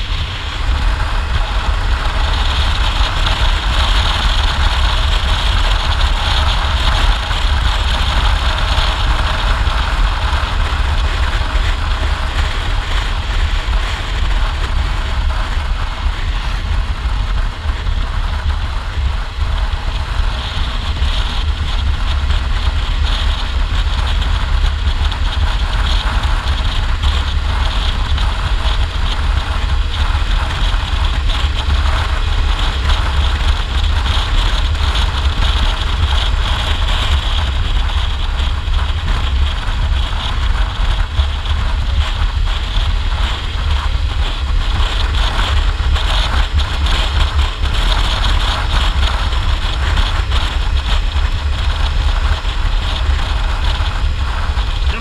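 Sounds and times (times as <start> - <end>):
motorcycle engine: 0.0 - 55.0
wind buffeting microphone: 0.0 - 55.0.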